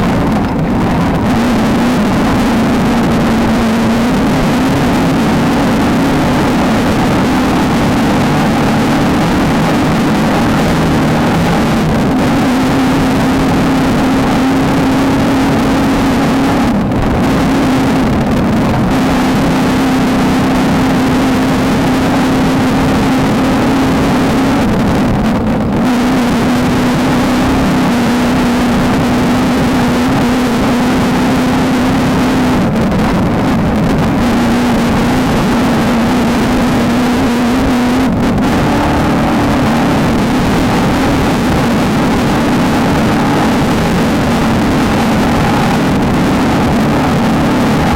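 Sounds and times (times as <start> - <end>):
race car engine running hard: 0.0 - 47.9
road and wind noise: 0.0 - 47.9.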